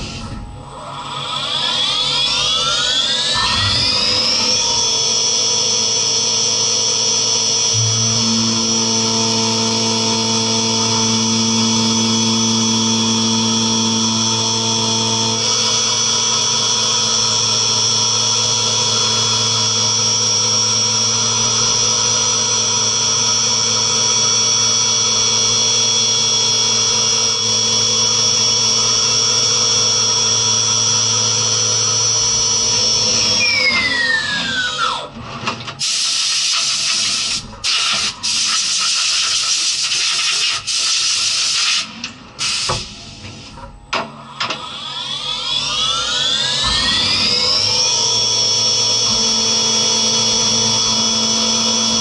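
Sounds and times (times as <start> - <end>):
metal cutting noise: 0.0 - 34.8, 44.5 - 52.0
mill spindle whine: 0.0 - 52.0.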